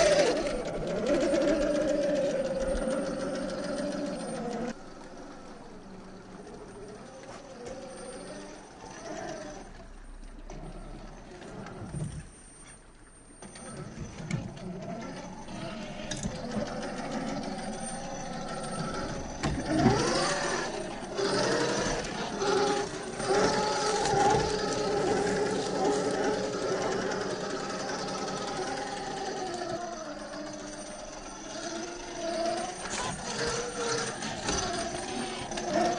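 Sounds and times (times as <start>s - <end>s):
electric motor whining: 0.0s - 12.0s, 13.6s - 35.9s.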